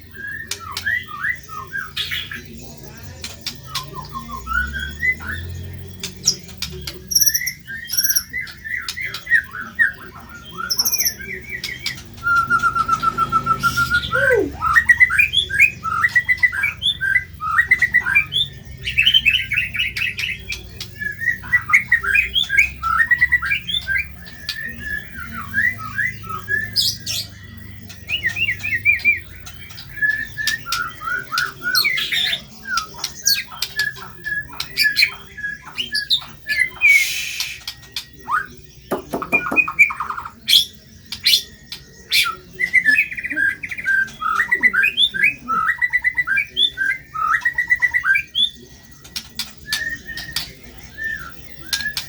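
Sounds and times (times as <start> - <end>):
songbird singing chirps and trills: 0.0 - 52.0.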